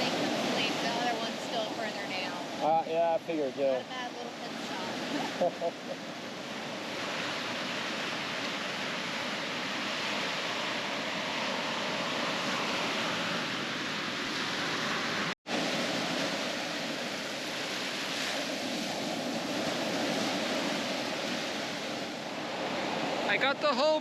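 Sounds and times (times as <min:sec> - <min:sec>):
ocean surf breaking on beach: 0:00.0 - 0:24.0.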